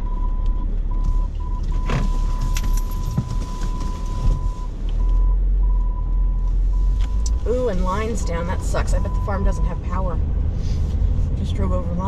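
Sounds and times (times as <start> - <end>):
parking sensor beeping: 0.0 - 10.0
car engine and road noise: 0.0 - 12.0.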